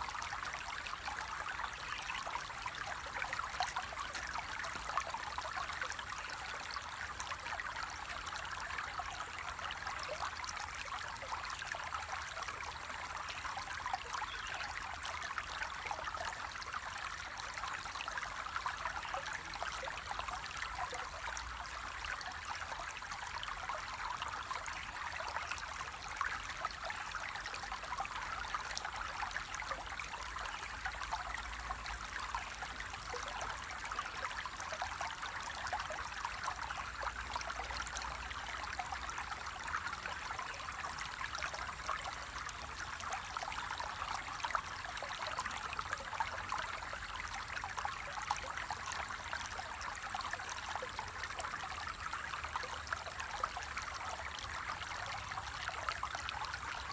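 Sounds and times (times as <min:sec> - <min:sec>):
flowing water: 0:00.0 - 0:56.9.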